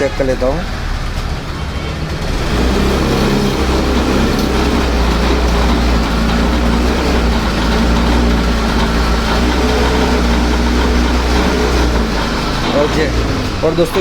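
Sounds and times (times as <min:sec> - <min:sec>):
scooter engine bogging down: 0:00.0 - 0:14.0.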